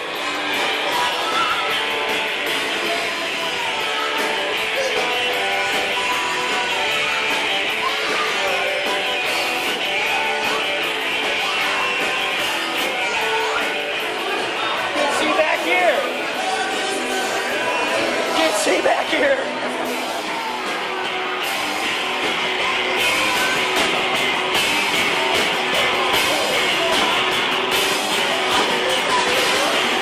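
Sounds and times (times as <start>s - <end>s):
band music with strummed guitar: 0.0s - 30.0s.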